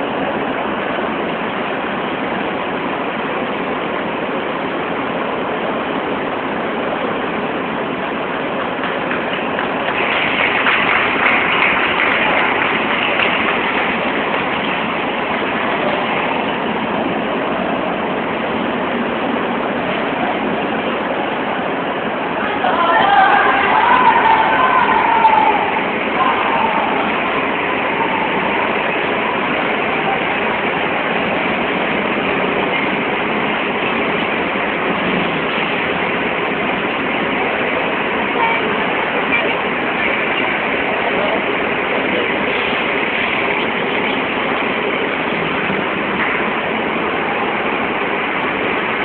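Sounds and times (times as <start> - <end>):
crowd hubbub: 0.0 - 49.0.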